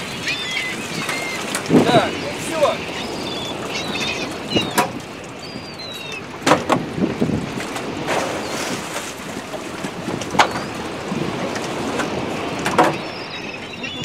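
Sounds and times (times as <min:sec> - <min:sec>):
water: 0:00.0 - 0:14.0
wind: 0:00.0 - 0:14.0.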